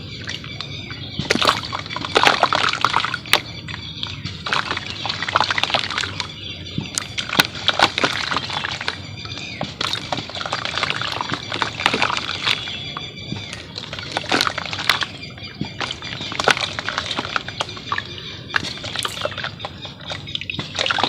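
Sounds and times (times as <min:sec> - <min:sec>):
mud sloshing and splashing in water: 0:00.0 - 0:21.0
small crackles of crumbling mud: 0:00.0 - 0:21.0.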